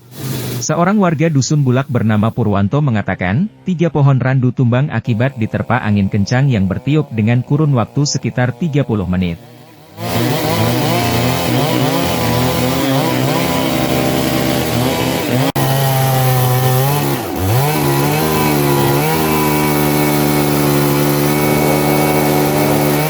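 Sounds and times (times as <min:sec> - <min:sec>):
chainsaw cutting wood: 0:00.0 - 0:00.8, 0:05.1 - 0:23.0.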